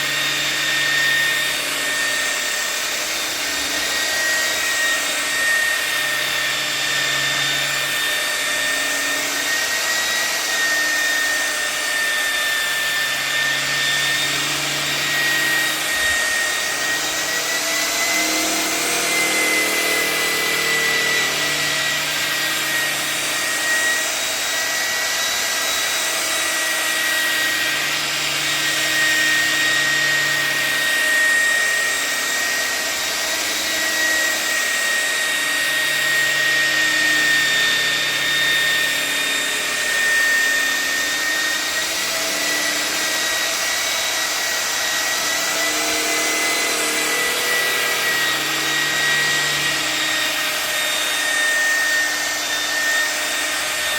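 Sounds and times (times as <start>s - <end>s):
electric polisher motor whine: 0.0s - 53.9s.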